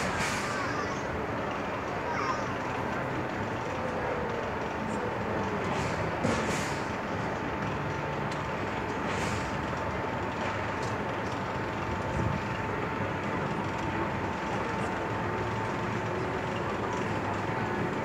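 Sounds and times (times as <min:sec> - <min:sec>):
ride mechanical hum: 0:00.0 - 0:18.0.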